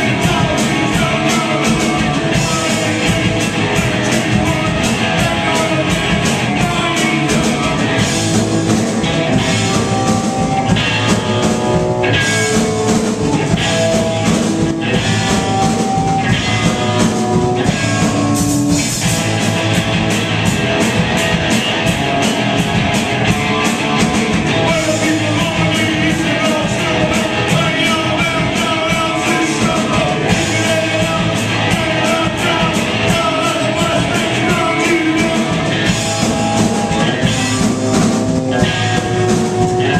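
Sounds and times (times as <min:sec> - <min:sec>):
rock band playing loudly: 0:00.0 - 0:39.9.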